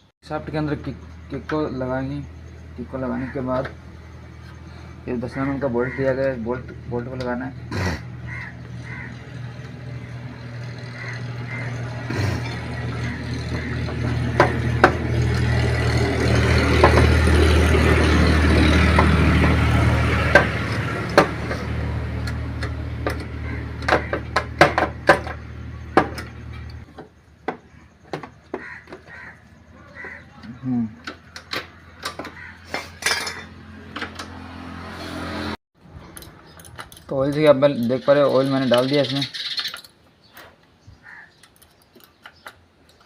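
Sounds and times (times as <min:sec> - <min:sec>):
engine humming: 0:00.0 - 0:43.0.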